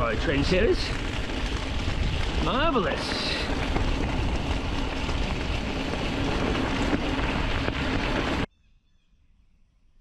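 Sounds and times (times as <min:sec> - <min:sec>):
wind rushing over microphone: 0:00.0 - 0:08.5.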